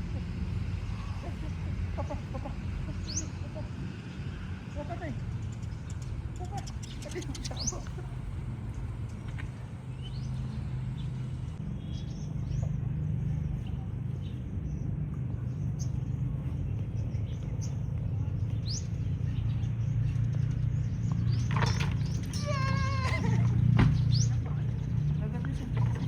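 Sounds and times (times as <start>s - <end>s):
steady low rumble: 0.0s - 21.5s.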